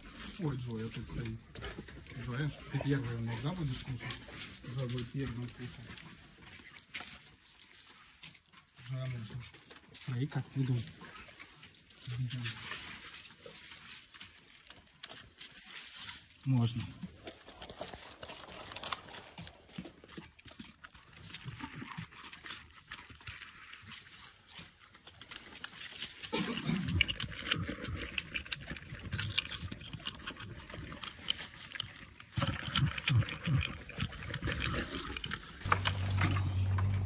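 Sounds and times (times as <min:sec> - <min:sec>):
dog crunching dry kibble: 0:00.0 - 0:37.0.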